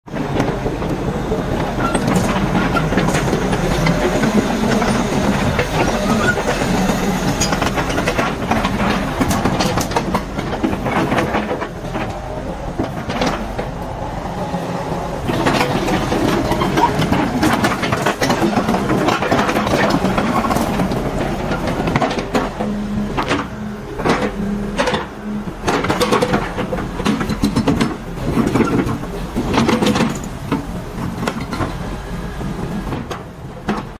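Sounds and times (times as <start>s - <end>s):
excavator diesel engine running: 0.1s - 33.9s
steel tracks clanking: 0.1s - 33.9s.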